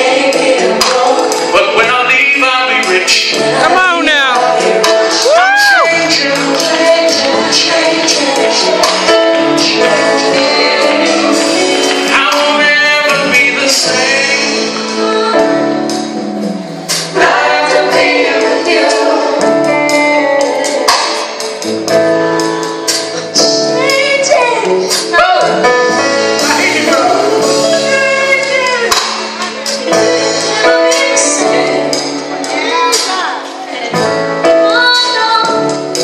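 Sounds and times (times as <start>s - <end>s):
gospel song with lead vocal: 0.0s - 36.0s
percussion hits: 2.8s - 33.3s.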